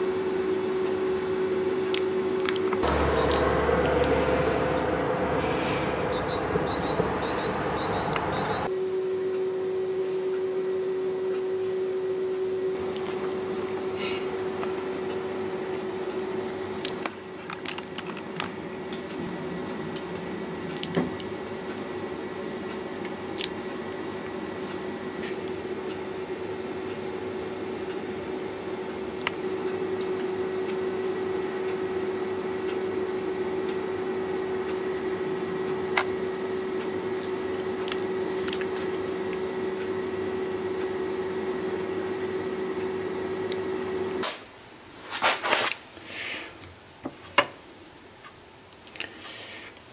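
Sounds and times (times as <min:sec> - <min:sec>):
desktop computer hum: 0:00.0 - 0:44.2.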